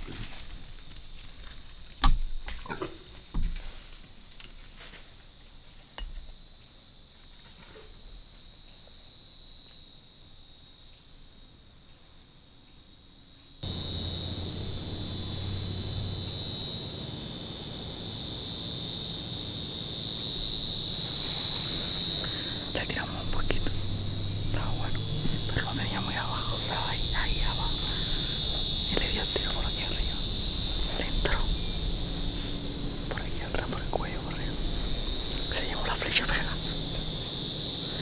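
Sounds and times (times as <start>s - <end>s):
crickets chirping chorus: 0.0s - 38.0s.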